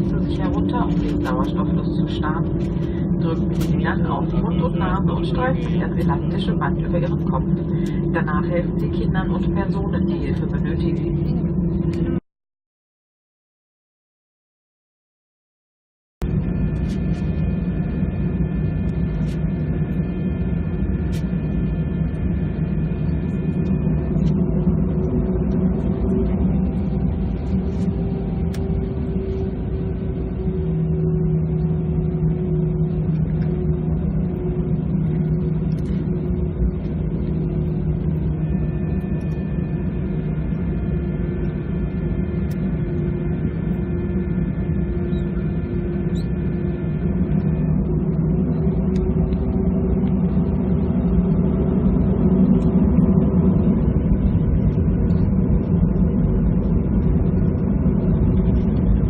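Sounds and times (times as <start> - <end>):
jet engine hum and rumble: 0.0 - 12.2, 16.2 - 59.0.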